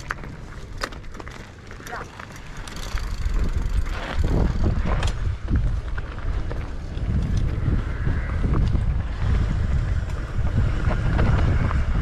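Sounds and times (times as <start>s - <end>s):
bike clicks and rattles: 0.0s - 12.0s
mountain bike on rough trail: 0.0s - 12.0s
wind buffeting microphone: 0.0s - 12.0s.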